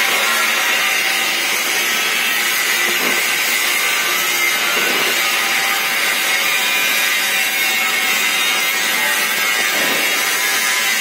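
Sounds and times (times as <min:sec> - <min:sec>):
welding torch flame hissing: 0:00.0 - 0:11.0.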